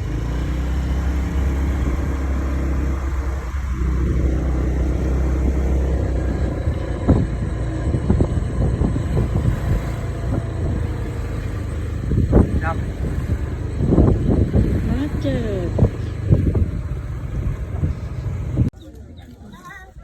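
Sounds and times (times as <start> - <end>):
vehicle low rumble: 0.0 - 19.5.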